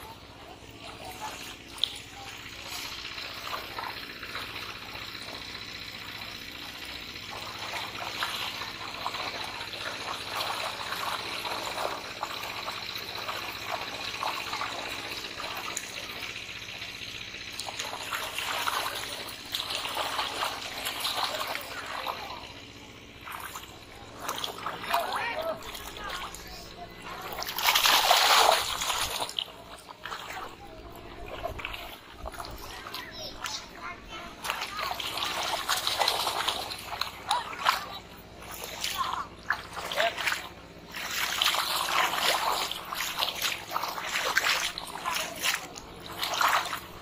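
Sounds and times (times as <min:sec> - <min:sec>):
net dragged through muddy water: 0:00.0 - 0:33.6, 0:34.4 - 0:47.0
fish thrashing in water: 0:00.0 - 0:47.0.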